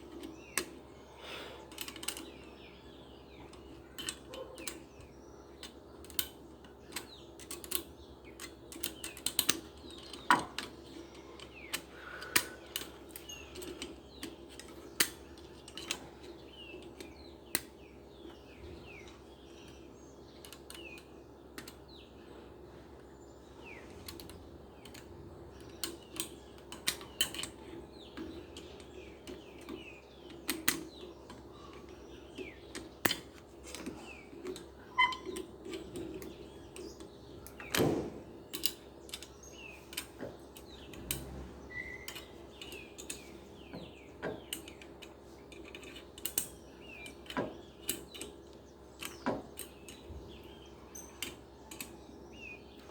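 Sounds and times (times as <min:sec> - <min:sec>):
clicks and taps of parts: 0:00.0 - 0:00.8, 0:01.7 - 0:02.4, 0:03.3 - 0:19.8, 0:20.4 - 0:21.8, 0:23.8 - 0:41.4, 0:42.0 - 0:52.0
faint bird chirps: 0:00.0 - 0:52.9.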